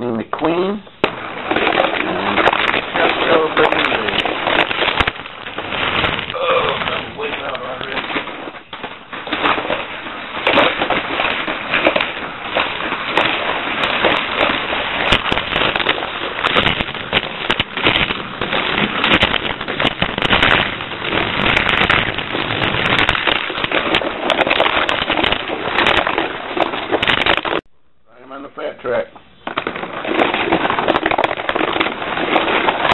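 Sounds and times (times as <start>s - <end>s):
toy car crackling rattle: 1.1s - 27.6s, 29.4s - 32.9s.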